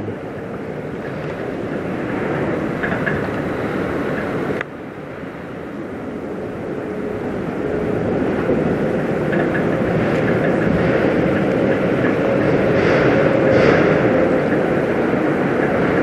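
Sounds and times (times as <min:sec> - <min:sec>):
ship low rumble: 0:00.0 - 0:16.0.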